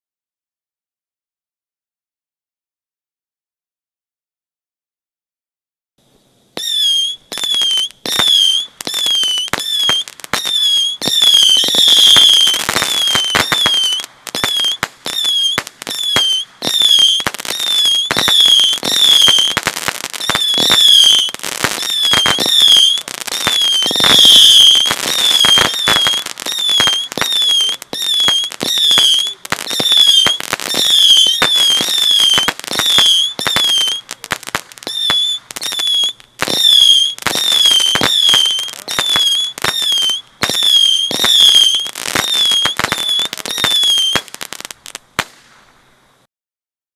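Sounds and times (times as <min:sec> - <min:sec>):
crackling pops: 0:06.6 - 0:45.8
whistling firework shots: 0:06.6 - 0:46.2.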